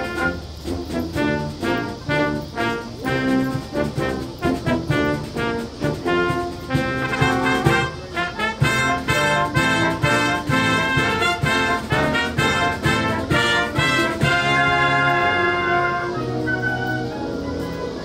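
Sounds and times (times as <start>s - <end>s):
brass band playing slow piece: 0.0s - 18.0s.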